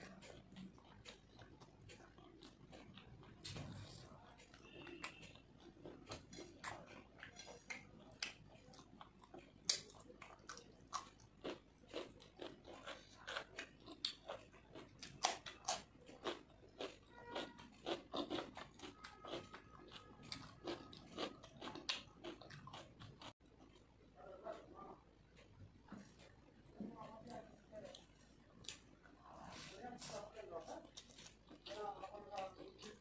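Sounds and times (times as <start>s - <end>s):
person chewing with wet mouth smacks: 0.0s - 26.7s, 30.8s - 33.0s.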